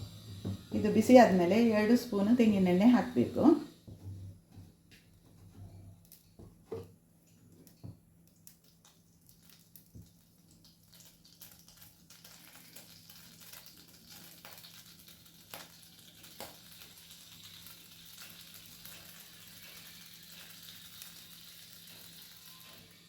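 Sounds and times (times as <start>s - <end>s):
oil sizzling in a pan: 0.0s - 4.4s, 7.6s - 23.0s.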